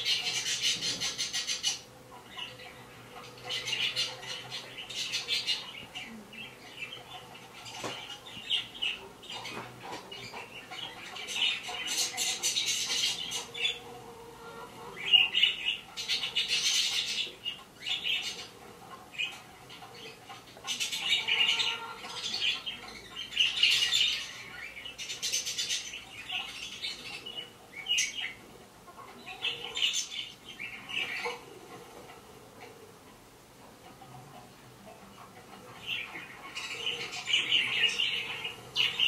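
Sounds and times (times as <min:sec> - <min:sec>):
parrots screaming and squawking: 0:00.0 - 0:32.8, 0:35.2 - 0:39.0.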